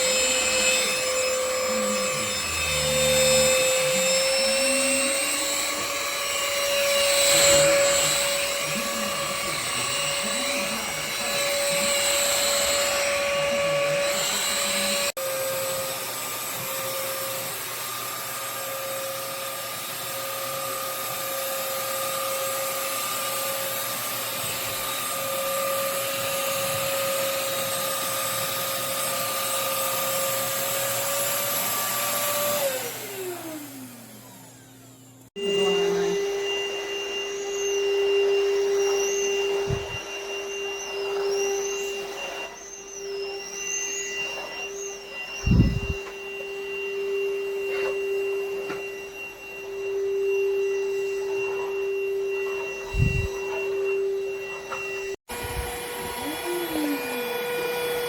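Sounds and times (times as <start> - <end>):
stick vacuum cleaner motor whine: 0.0 - 58.0.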